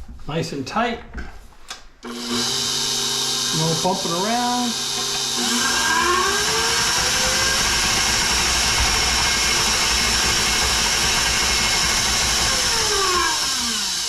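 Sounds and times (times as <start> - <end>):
stand mixer motor whirring: 2.0 - 14.0.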